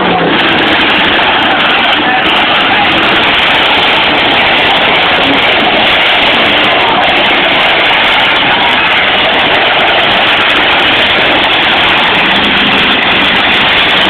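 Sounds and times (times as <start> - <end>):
car engines running loud: 0.0 - 14.0.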